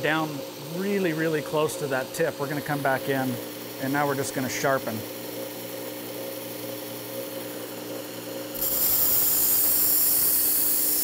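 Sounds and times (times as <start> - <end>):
belt sharpener motor whine: 0.0 - 11.0.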